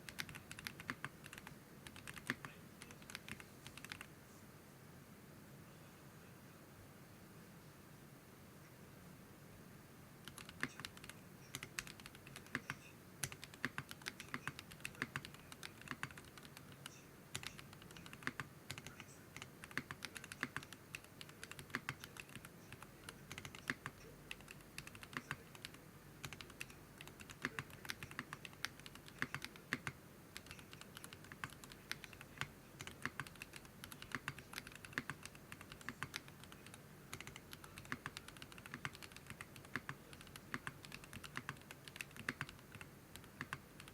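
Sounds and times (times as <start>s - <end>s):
mechanical keyboard typing: 0.0s - 4.1s, 10.2s - 43.9s.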